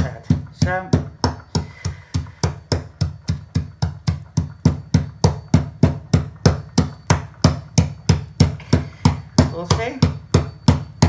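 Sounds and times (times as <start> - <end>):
steel bar pounding kibble: 0.0 - 11.0.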